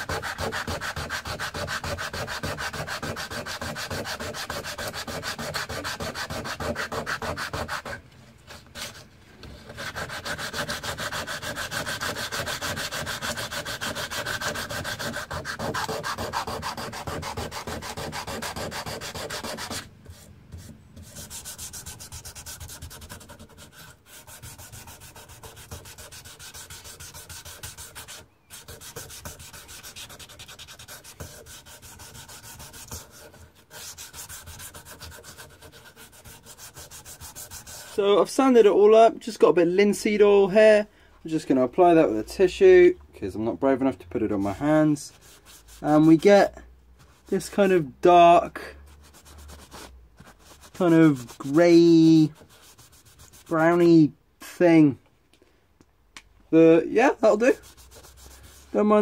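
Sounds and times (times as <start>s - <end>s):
sandpaper rubbing on wood: 0.0s - 38.0s, 44.4s - 47.8s, 48.7s - 54.0s, 57.0s - 59.0s.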